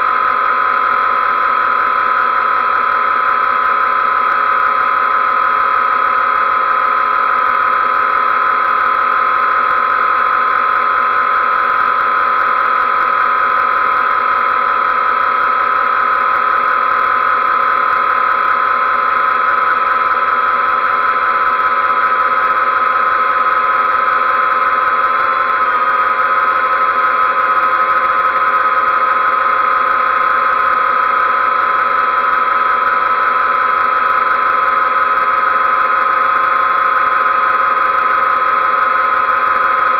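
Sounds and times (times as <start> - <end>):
quadcopter propellers whining: 0.0 - 39.9.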